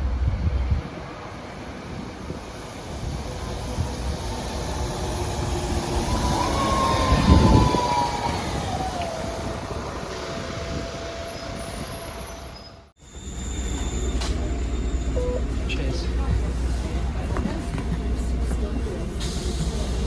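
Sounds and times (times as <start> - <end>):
bus engine and tyres: 0.0 - 20.0.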